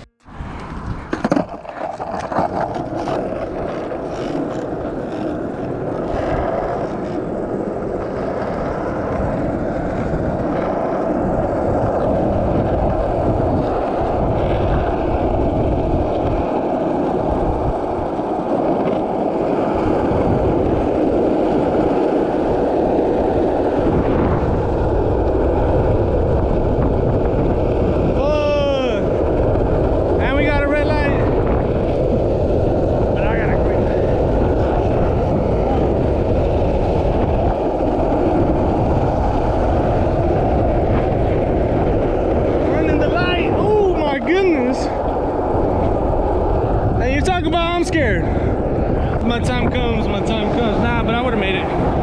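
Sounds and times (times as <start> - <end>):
skateboard wheels rolling on asphalt: 0.0 - 52.0
wind on microphone: 0.0 - 52.0.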